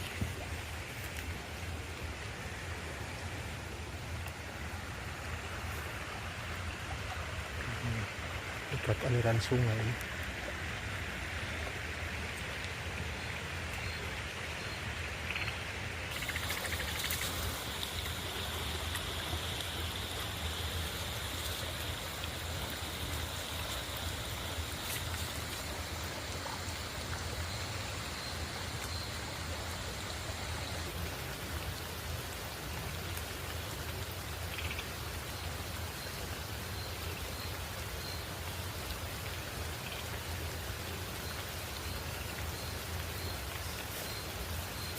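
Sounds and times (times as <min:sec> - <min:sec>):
river water flowing: 0:00.0 - 0:44.9.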